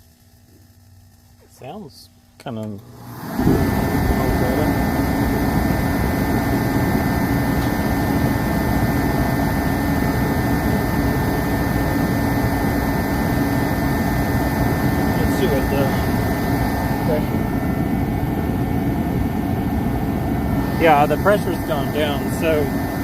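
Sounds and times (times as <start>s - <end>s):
heater high whine: 0.0s - 23.0s
diesel heater rushing: 2.8s - 23.0s.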